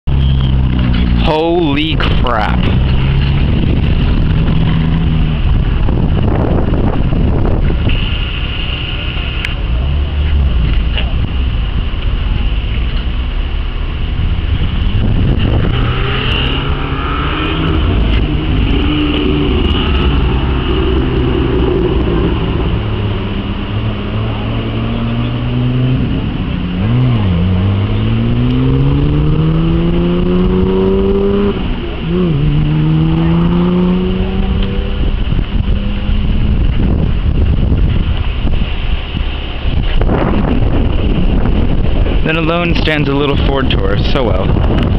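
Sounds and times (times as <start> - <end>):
car engine accelerating: 0.0 - 8.0, 9.0 - 44.9
sports car engines passing: 0.1 - 44.9.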